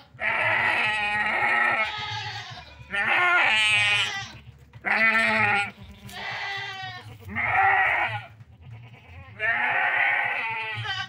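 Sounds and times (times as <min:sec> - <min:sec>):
goat bleating: 0:00.0 - 0:11.0.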